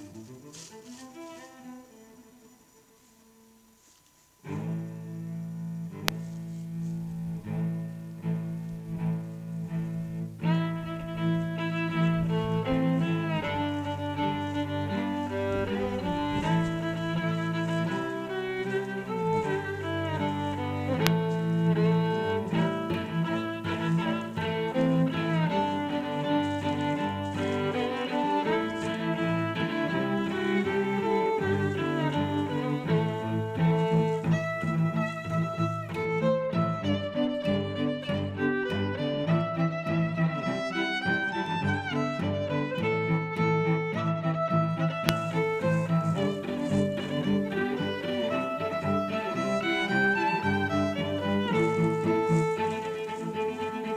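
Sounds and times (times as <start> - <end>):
bowed strings music: 0.0 - 53.9.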